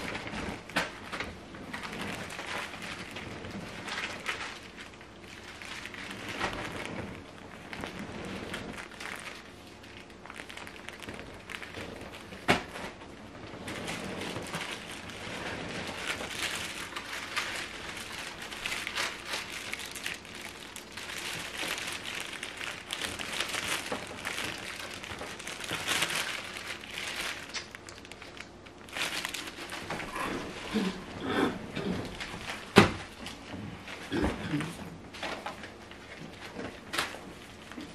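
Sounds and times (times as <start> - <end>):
cardboard and plastic rustling: 0.0 - 37.9.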